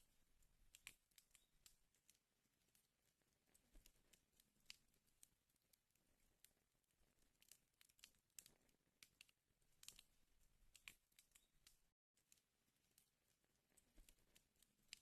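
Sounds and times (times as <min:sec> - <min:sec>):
wood fire crackling faintly: 0:00.0 - 0:15.0.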